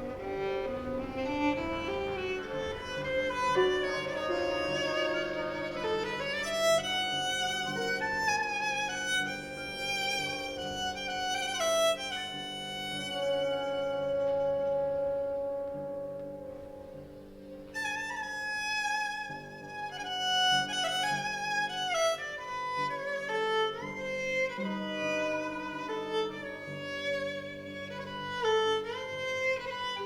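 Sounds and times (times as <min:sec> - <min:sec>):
violin melody with slides: 0:00.0 - 0:30.0.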